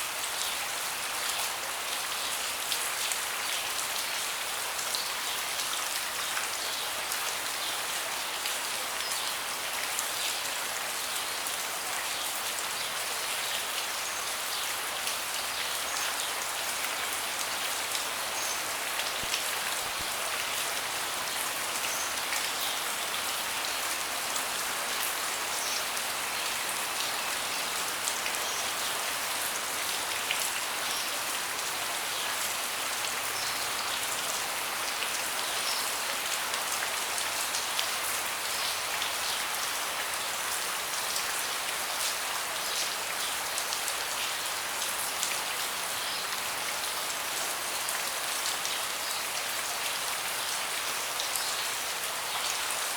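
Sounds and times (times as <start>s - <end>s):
rain falling on a deck: 0.0s - 52.9s.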